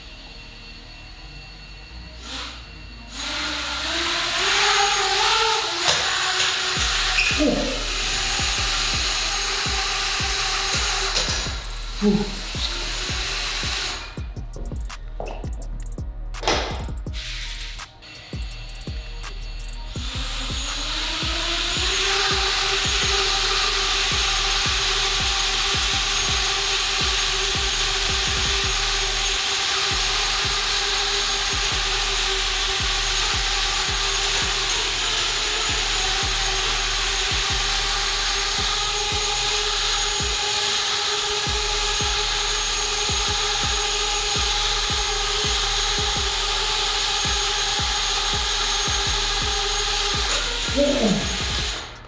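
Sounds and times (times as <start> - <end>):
drone motor whine: 0.0 - 52.0.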